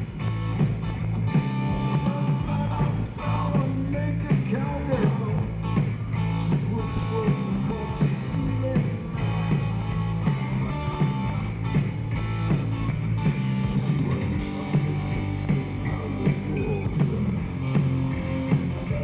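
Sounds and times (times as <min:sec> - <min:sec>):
electric guitar: 0:00.0 - 0:19.0
live blues-rock band: 0:00.0 - 0:19.0.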